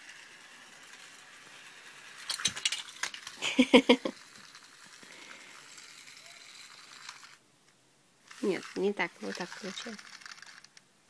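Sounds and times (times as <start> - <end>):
plastic toy train clattering: 0.0 - 7.4, 8.3 - 10.9.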